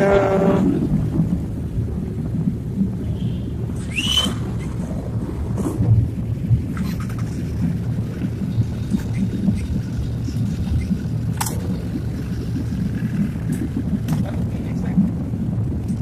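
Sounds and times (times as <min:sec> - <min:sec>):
road traffic rumble: 0:00.0 - 0:16.0
wind buffeting microphone: 0:00.0 - 0:16.0.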